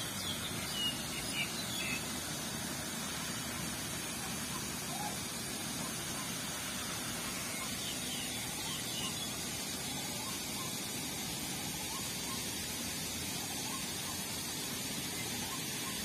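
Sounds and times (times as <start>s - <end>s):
outdoor ambience hiss: 0.0s - 16.0s.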